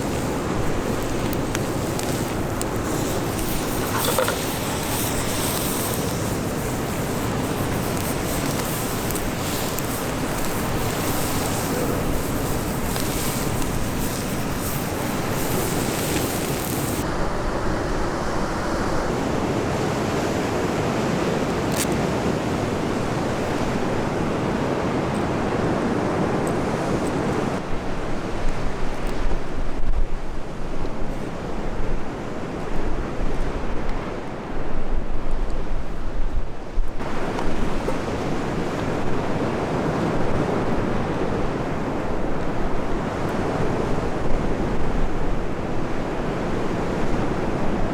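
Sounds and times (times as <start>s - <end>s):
sea waves washing on shore: 0.0s - 36.1s, 36.8s - 47.9s
wind: 0.0s - 47.9s
wind gusts buffeting microphone: 0.0s - 47.9s.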